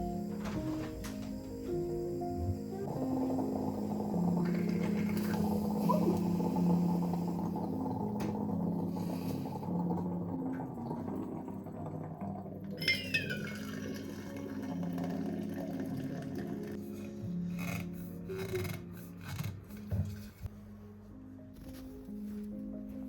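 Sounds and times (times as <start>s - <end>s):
soft background music: 0.0s - 23.0s.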